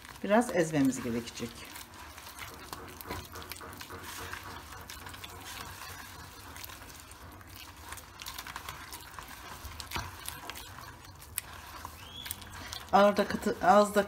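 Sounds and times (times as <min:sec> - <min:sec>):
wet squelching of mashed paste: 0:00.0 - 0:14.0.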